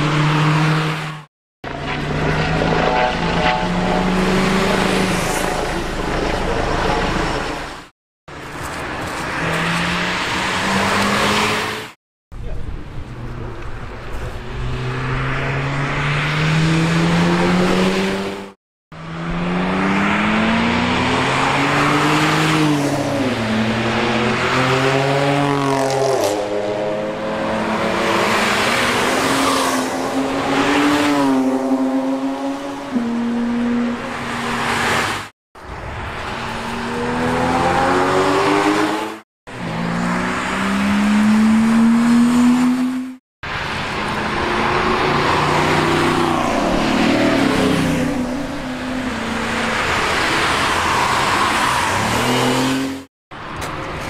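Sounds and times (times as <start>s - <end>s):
car engines accelerating: 0.0s - 11.9s, 13.0s - 54.0s.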